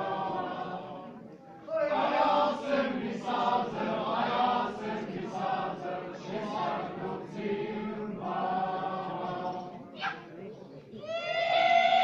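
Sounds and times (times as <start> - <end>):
group singing folk song: 0.0 - 9.9.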